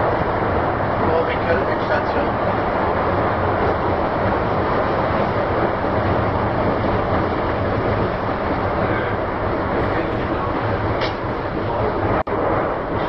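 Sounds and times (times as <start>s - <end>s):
monorail car running: 0.0s - 13.0s.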